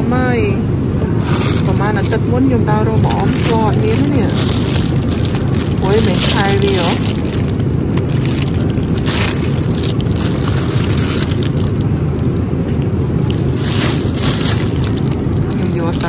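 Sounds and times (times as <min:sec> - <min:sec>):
low background rumble: 0:00.0 - 0:16.0
plastic bags crinkling: 0:01.2 - 0:16.0.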